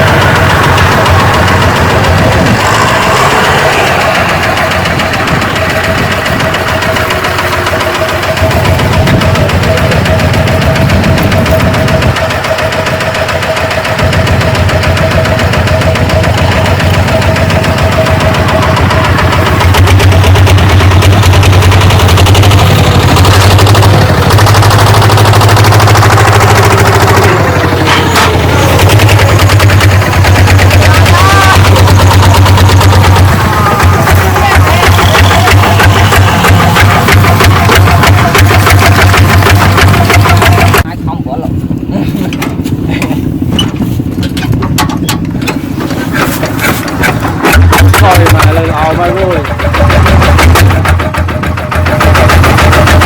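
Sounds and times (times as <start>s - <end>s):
mechanical knocks and rattles: 0.0s - 40.9s, 42.3s - 53.0s
diesel engine clattering: 0.0s - 53.0s.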